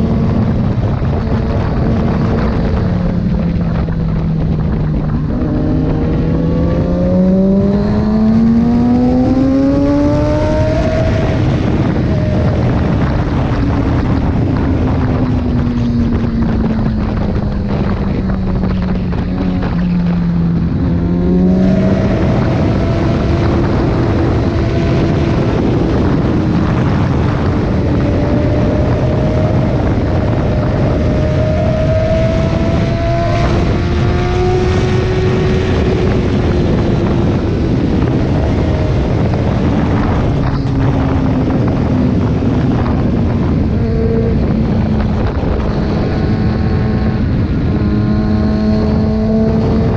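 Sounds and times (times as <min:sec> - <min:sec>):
motorcycle engine running: 0:00.0 - 0:49.9
wind noise: 0:00.0 - 0:49.9.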